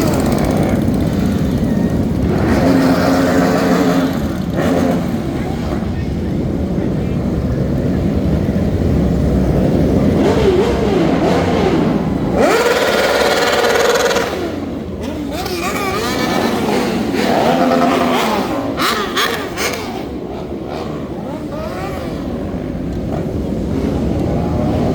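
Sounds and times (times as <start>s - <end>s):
motorcycles revving past: 0.0s - 6.2s, 6.9s - 24.9s.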